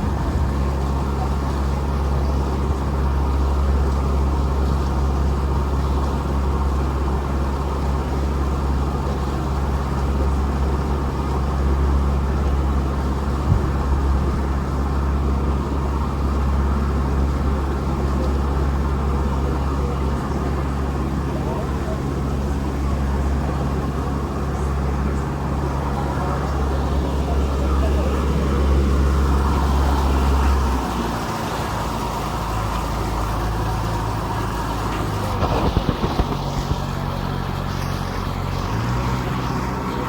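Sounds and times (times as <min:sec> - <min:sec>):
boat engine running: 0:00.0 - 0:40.0.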